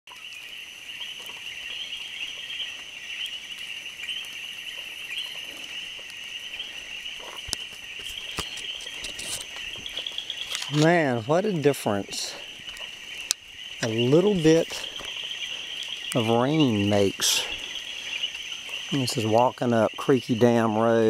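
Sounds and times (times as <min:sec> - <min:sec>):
frogs trilling in chorus: 0:00.1 - 0:21.0.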